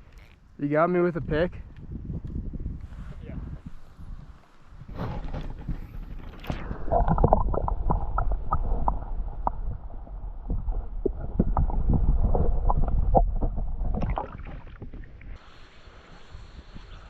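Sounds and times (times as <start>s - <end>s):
wind buffeting microphone: 0.6s - 15.4s.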